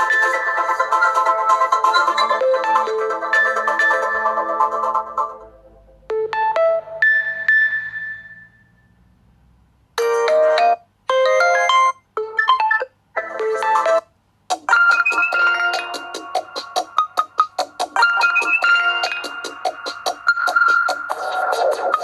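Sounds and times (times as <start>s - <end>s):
synthesized ringtone melody: 0.0s - 5.4s, 6.1s - 8.9s, 10.0s - 14.0s, 14.7s - 22.0s.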